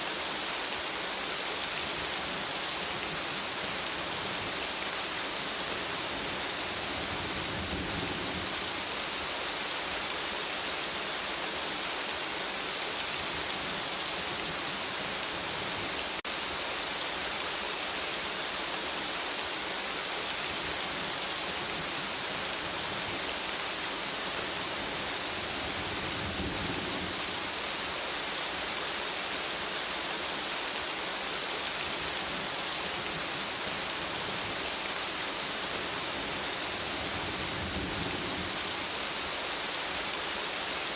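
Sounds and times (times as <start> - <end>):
rain falling on foliage: 0.0 - 40.9.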